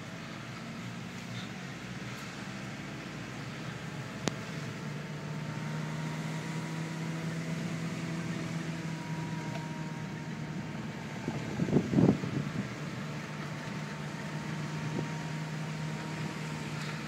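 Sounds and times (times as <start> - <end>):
car engine and tyre hum: 0.0 - 17.0.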